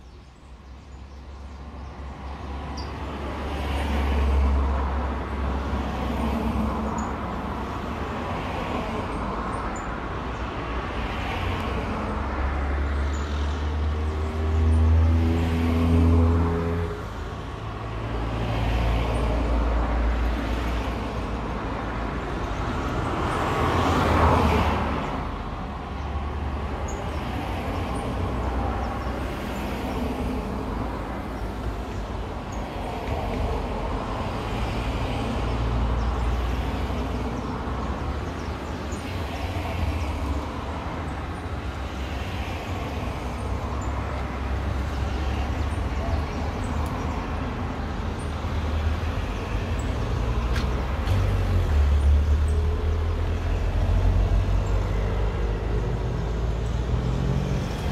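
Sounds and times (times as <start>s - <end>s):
cars passing on road: 0.0s - 57.9s.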